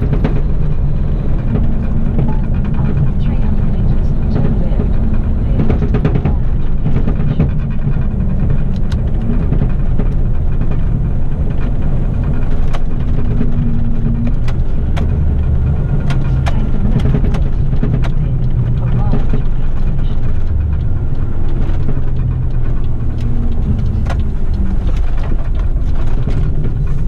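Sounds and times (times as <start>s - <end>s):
sharp clicks and rattles: 0.0s - 27.0s
truck engine and road rumble: 0.0s - 27.0s.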